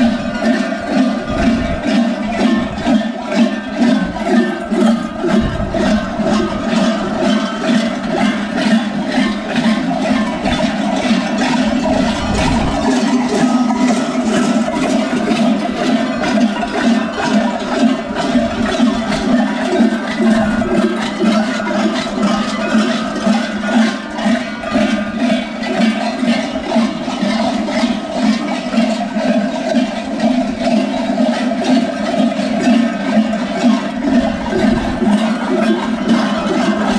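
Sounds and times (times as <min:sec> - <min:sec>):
metal bells clanging: 0:00.0 - 0:36.9.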